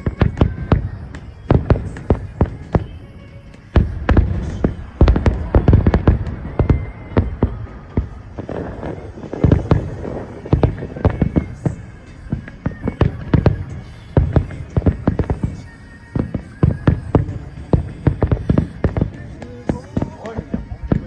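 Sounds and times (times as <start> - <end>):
faint music: 0.0 - 21.0
fireworks booming: 0.0 - 21.0.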